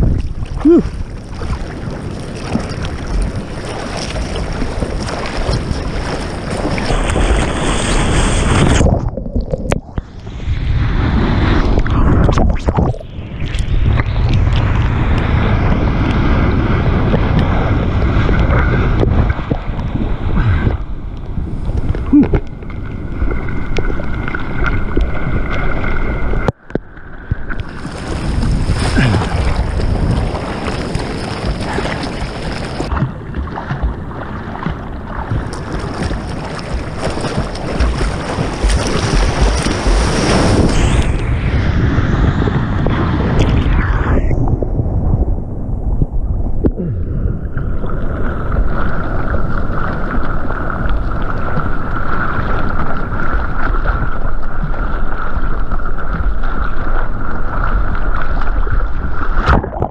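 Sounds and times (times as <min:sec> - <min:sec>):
wind buffeting microphone: 0:00.0 - 0:26.5, 0:27.1 - 0:59.9
surf breaking and splashing: 0:00.0 - 0:59.9.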